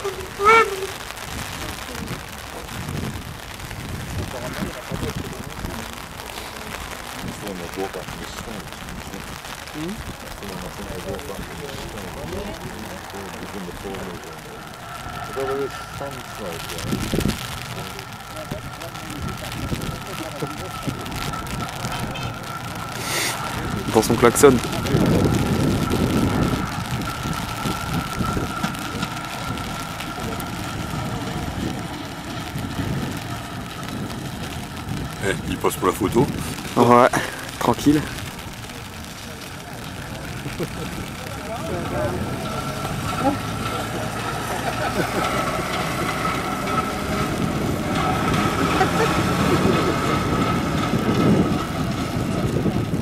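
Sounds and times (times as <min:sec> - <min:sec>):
onlookers' voices: 0:00.0 - 0:53.0
rail vehicle engine rumble: 0:00.0 - 0:53.0.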